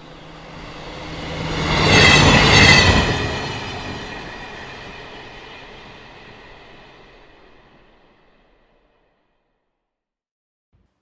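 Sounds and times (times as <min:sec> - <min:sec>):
train passing rumble: 0:00.0 - 0:09.0.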